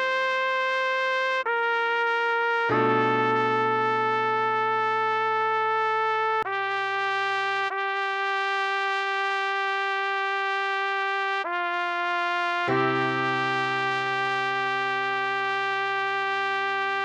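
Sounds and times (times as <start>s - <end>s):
trumpet slow melody: 0.0s - 17.0s.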